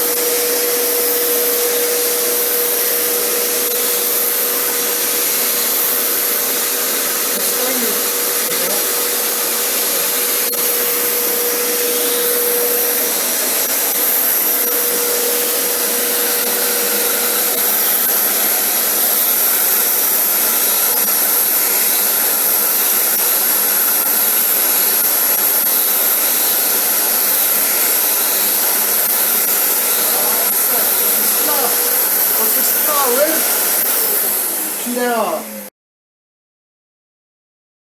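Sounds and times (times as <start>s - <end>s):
vacuum cleaner running: 0.0s - 35.7s.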